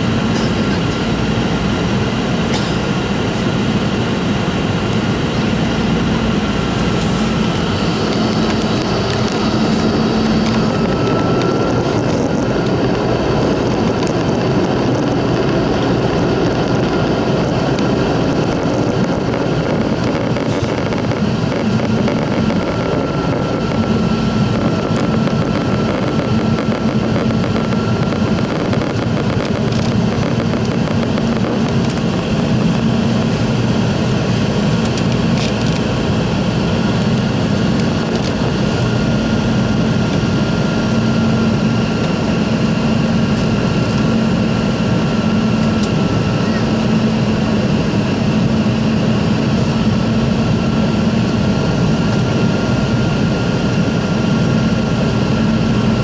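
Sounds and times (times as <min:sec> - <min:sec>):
airflow over aircraft fuselage: 0:00.0 - 0:56.0
jet engine hum: 0:00.0 - 0:56.0.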